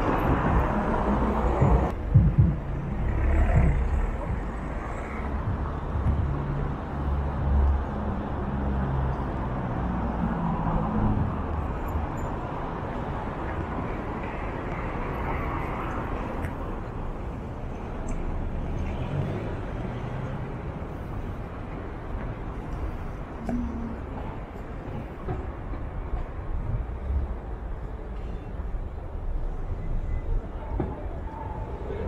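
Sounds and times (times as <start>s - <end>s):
city street traffic hum: 0.0s - 32.0s.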